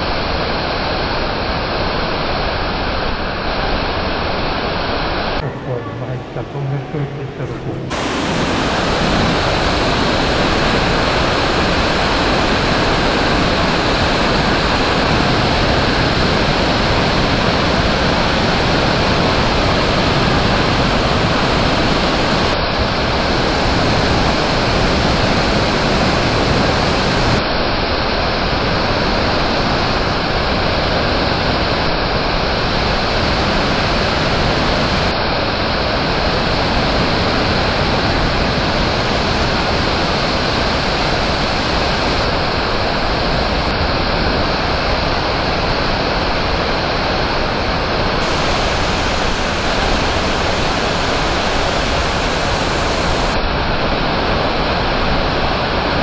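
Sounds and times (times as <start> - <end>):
waterfall rushing: 2.2 - 55.8.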